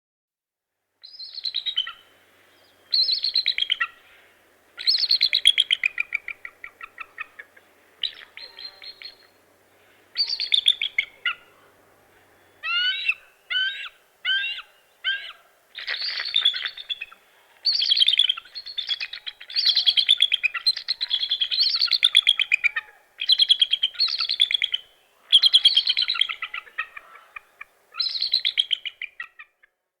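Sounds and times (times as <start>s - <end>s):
eagle calling: 1.0s - 29.6s.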